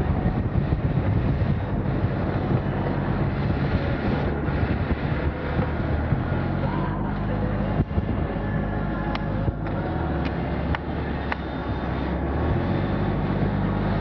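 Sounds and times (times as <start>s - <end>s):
motorcycle engine running: 0.0s - 14.0s
wind rumbling on microphone: 0.0s - 14.0s.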